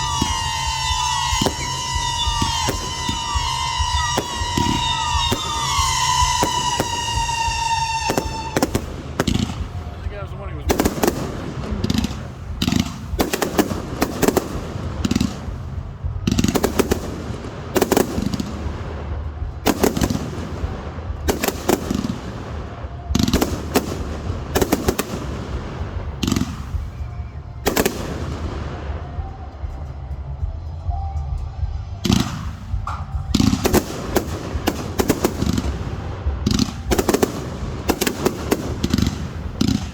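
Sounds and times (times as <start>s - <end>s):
fireworks bangs: 0.0s - 39.9s
low rumble: 0.0s - 39.9s.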